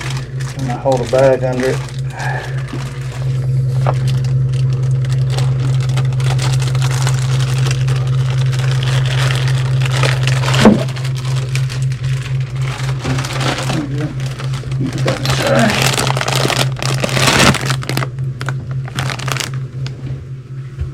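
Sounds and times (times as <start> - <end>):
plastic rustling and crackling: 0.0 - 20.0
low machinery hum: 0.0 - 20.9.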